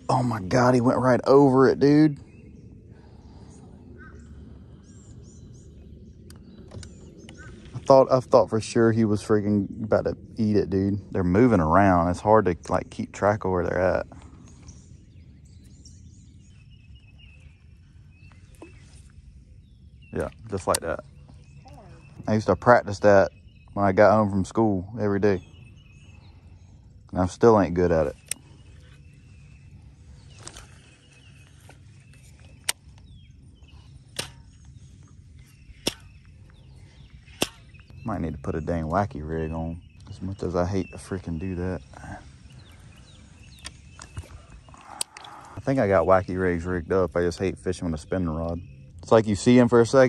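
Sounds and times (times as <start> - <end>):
faint birds calling: 0.0 - 50.0
insects calling: 0.0 - 50.0
low steady rumble: 0.0 - 50.0
steady low hum: 0.0 - 50.0.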